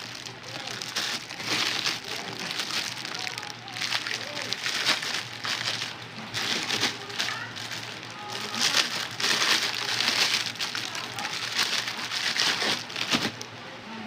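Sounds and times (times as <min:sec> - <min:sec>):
packaging crinkling and rustling: 0:00.0 - 0:13.4.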